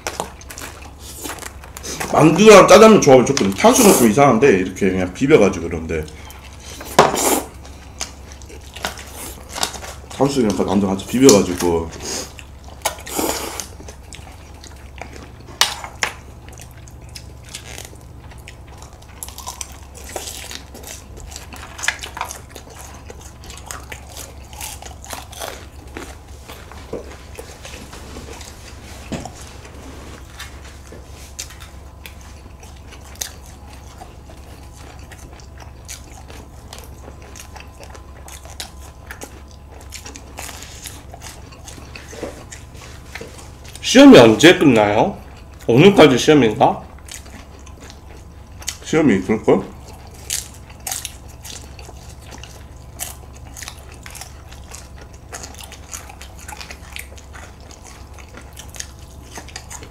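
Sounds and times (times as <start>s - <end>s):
people chewing food: 0.0s - 59.9s
steady low hum: 0.0s - 59.9s.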